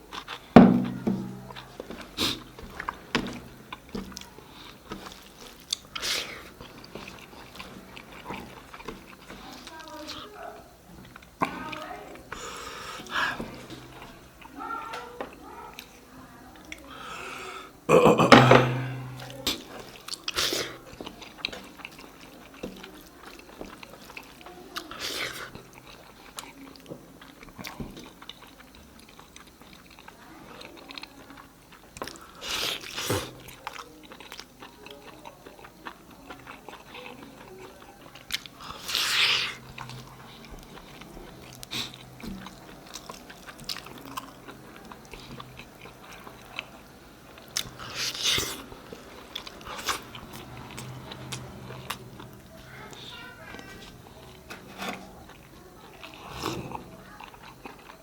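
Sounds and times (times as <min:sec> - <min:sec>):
person chewing food: 0:00.0 - 0:16.0, 0:16.6 - 0:58.0.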